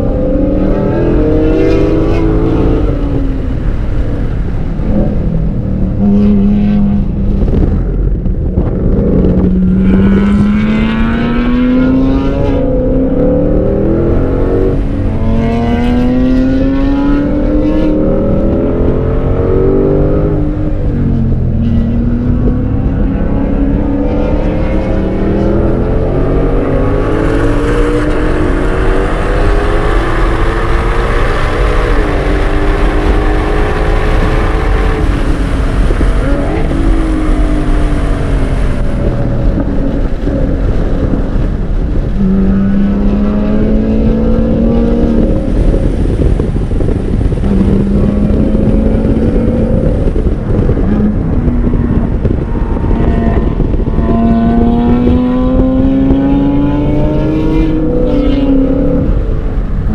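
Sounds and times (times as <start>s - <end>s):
car engine accelerating: 0.0s - 59.9s
wind rush: 0.0s - 59.9s.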